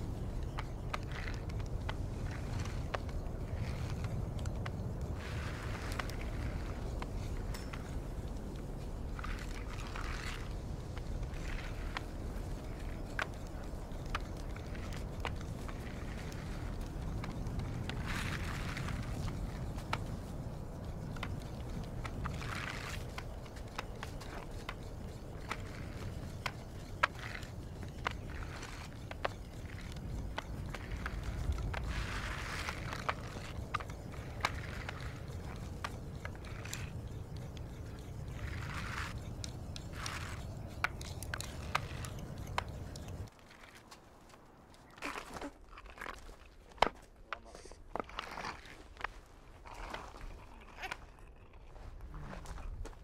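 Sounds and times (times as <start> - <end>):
blizzard wind rumbling: 0.0 - 53.0
bodies scraping over road: 0.0 - 53.0.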